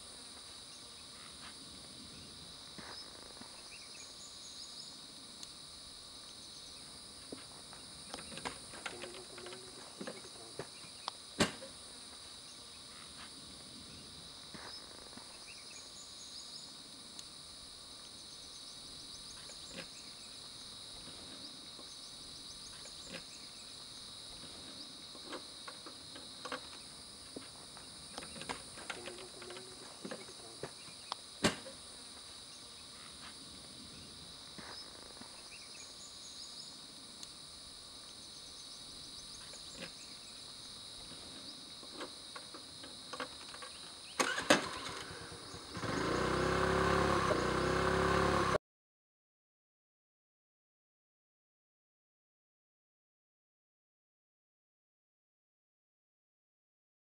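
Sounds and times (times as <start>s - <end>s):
insects droning: 0.0s - 48.6s.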